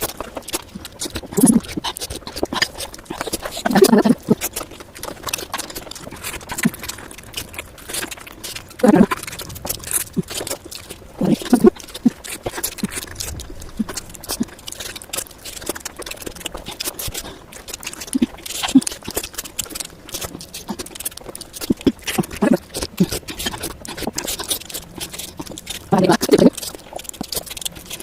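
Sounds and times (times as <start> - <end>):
person chewing with wet smacks: 0.0 - 28.0.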